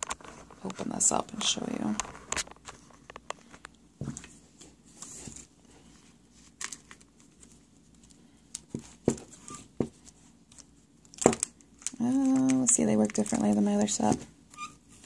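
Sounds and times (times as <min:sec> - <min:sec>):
rustle of handling: 0:00.0 - 0:15.0.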